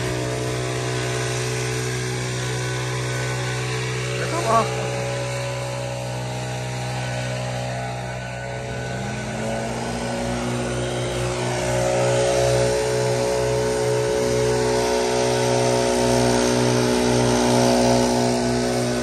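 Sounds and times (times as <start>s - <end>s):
leaf blower engine running: 0.0s - 19.0s.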